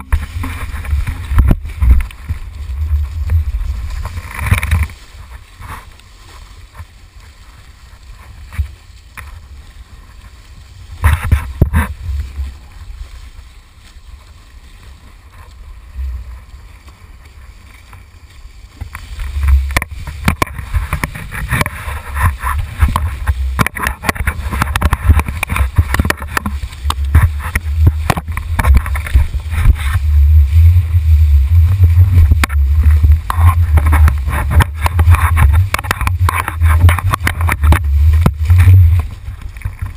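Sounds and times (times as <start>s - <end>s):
water splashing: 0.0s - 39.9s
wind rumbling on microphone: 0.0s - 39.9s.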